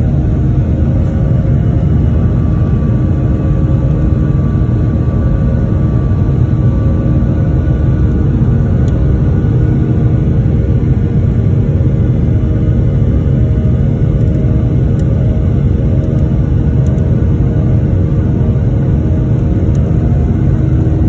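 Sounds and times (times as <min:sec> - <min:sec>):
jet engine rumble: 0:00.0 - 0:21.0
steady humming tones: 0:00.0 - 0:21.0.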